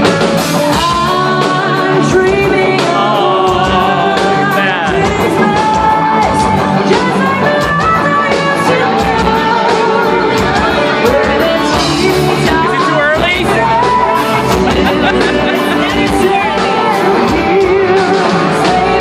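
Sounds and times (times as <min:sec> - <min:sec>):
bass: 0:00.0 - 0:19.0
live band playing: 0:00.0 - 0:19.0
person singing: 0:00.6 - 0:19.0.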